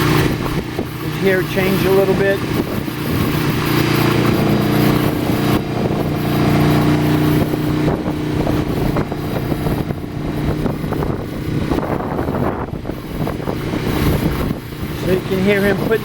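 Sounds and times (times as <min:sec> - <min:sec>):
generator running: 0:00.0 - 0:16.0.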